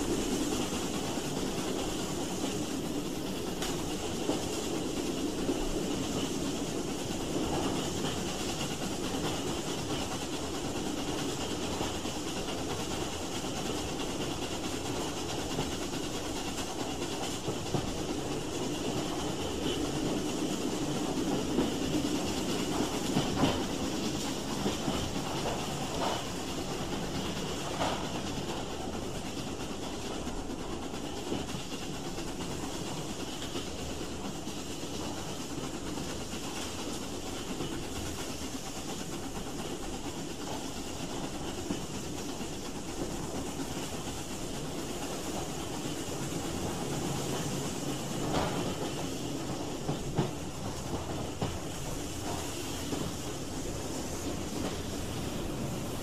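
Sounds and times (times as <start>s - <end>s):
steam train rumble and hiss: 0.0s - 56.0s.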